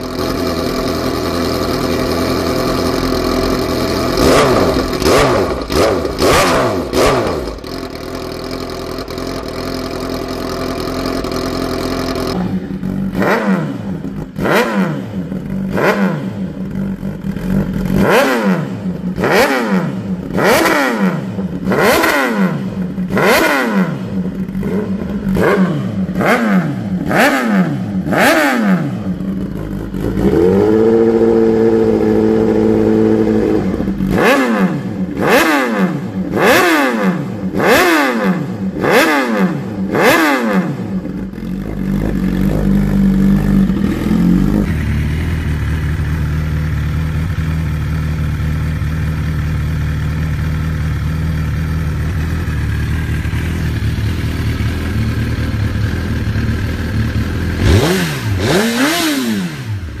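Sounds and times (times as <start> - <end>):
motorcycle engine revving and idling: 0.0 - 60.0.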